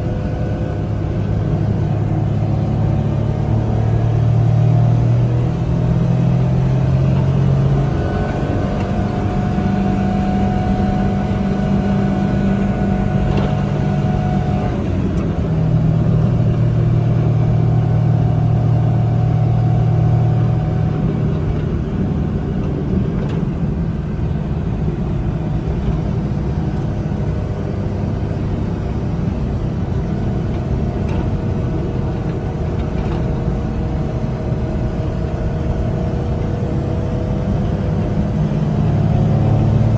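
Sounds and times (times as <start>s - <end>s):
road noise: 0.0s - 39.9s
small truck engine running: 0.0s - 39.9s.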